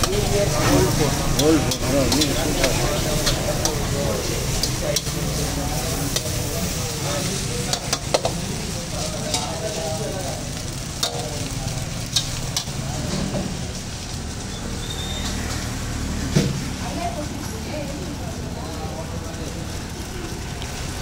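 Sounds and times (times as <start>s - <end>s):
rice sizzling in a wok: 0.0s - 21.0s.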